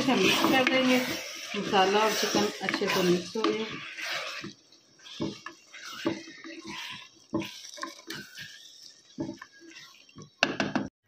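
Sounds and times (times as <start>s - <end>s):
spatula scraping pot: 0.0s - 10.4s
spatula stirring thick mixture: 0.0s - 10.9s.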